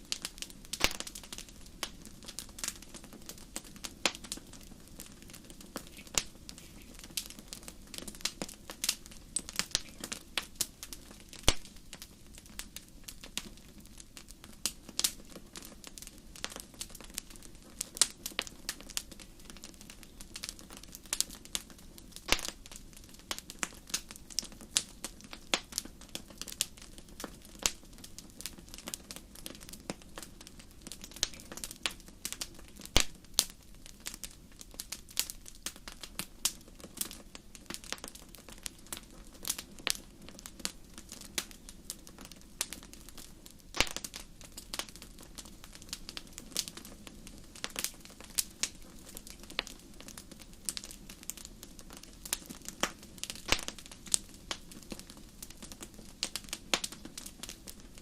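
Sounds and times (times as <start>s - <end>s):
low rumble of burning: 0.0s - 58.0s
wood fire crackling: 0.0s - 58.0s.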